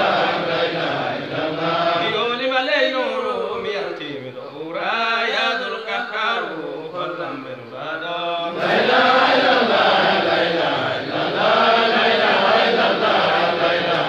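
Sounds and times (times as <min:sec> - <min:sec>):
men chanting: 0:00.0 - 0:14.0.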